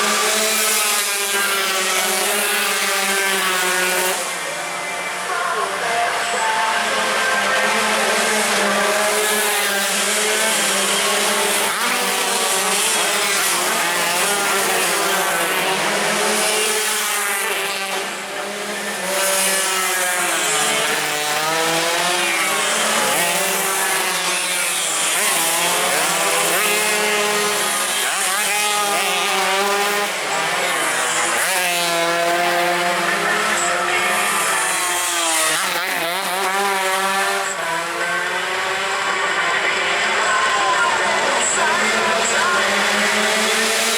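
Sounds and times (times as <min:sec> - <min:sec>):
racing motorcycles revving: 0:00.0 - 0:43.9.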